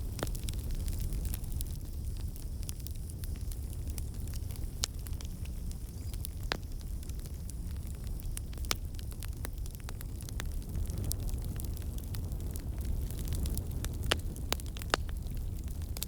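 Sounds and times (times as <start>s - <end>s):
fire crackling: 0.0s - 16.0s
sharp pops and snaps of fire: 0.0s - 16.0s.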